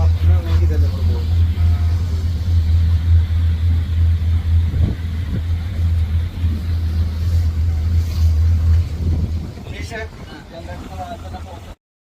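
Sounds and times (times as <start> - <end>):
boat engine droning: 0.0 - 11.8.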